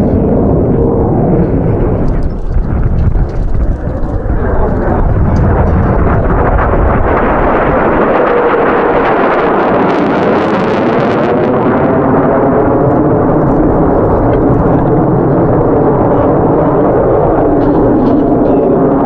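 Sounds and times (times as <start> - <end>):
jet engines flying past: 0.0 - 19.0.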